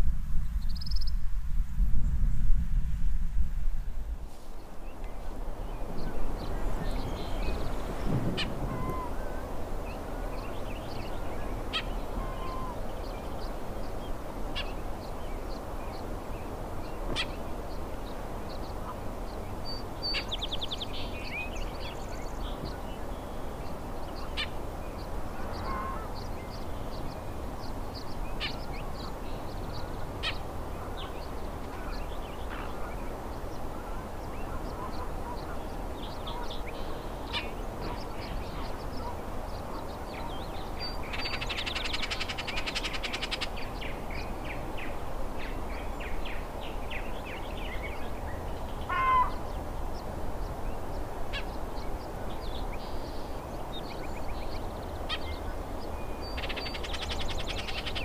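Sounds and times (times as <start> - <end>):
songbird calling: 4.6 - 58.0.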